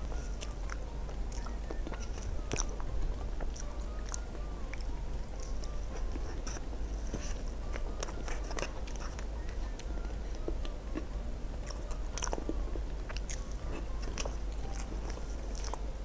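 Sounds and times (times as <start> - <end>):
person chewing: 0.0 - 15.9.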